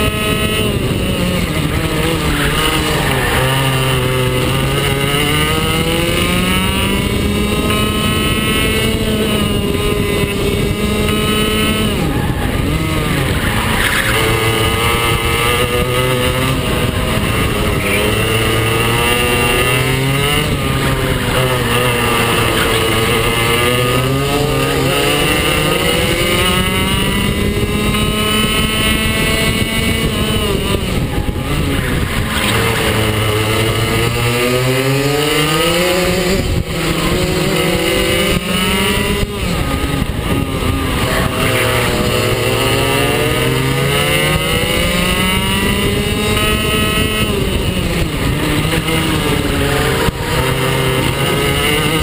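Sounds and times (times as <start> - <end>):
go-kart engines racing: 0.0 - 52.0
steady rushing noise: 0.0 - 52.0.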